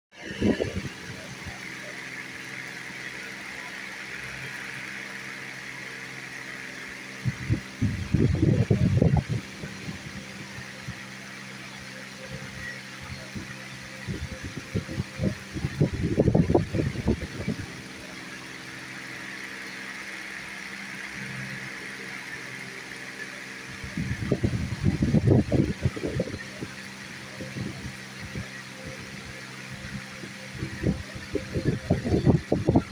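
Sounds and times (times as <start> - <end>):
low mechanical hum: 0.2 - 32.9.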